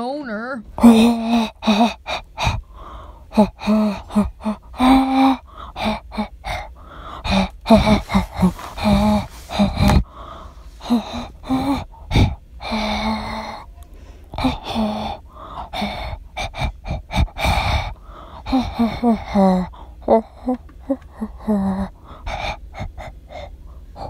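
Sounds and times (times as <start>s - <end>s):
person gasping breathily: 0.8s - 24.0s.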